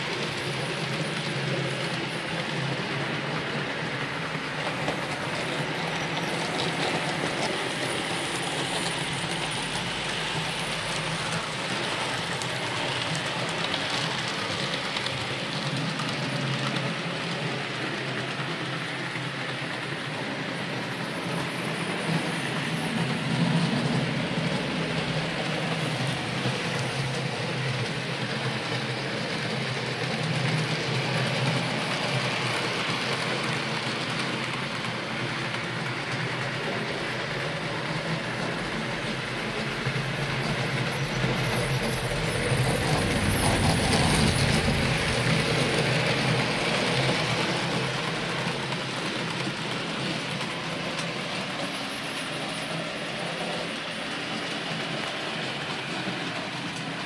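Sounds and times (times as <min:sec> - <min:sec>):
wheels rattling on rails: 0:00.0 - 0:57.0.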